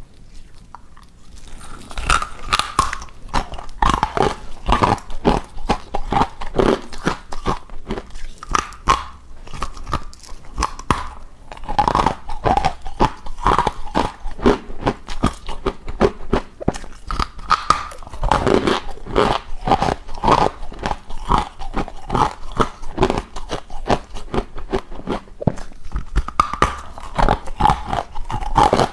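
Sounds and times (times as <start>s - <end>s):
ice being chewed: 0.0s - 28.9s.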